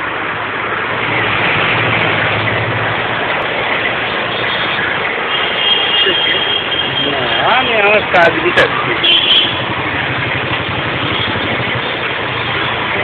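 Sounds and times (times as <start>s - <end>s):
busy road traffic: 0.0s - 13.0s.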